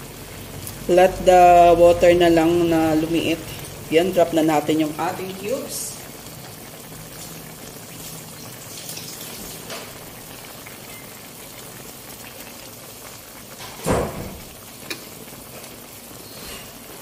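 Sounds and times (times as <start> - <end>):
broth bubbling with crackles: 0.0 - 17.0.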